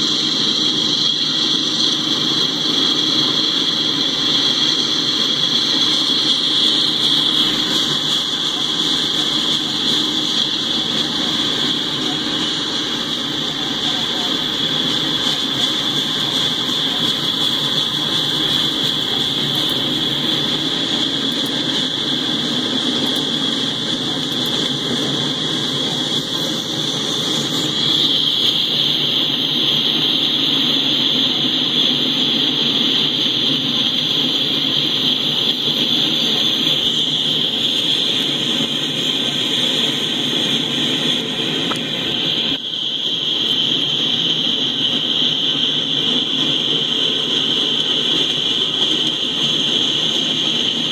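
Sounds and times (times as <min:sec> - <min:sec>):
high-pitched hiss: 0:00.0 - 0:50.9
train wheels rumbling on track: 0:00.0 - 0:50.9.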